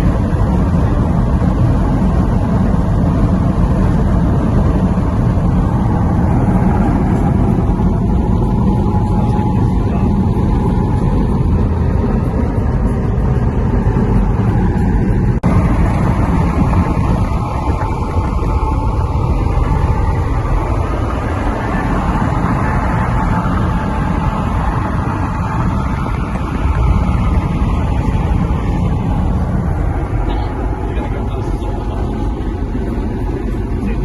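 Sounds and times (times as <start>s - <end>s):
car engine: 0.0s - 34.0s
road noise: 0.0s - 34.0s
wind noise: 0.0s - 34.0s.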